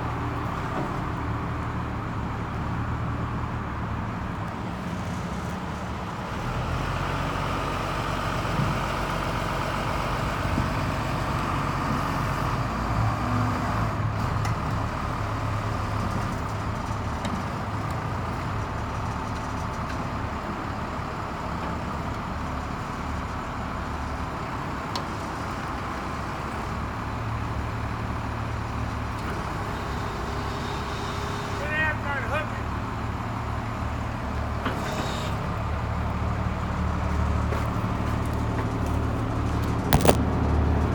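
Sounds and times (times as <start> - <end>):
truck crane engine running: 0.0 - 40.9.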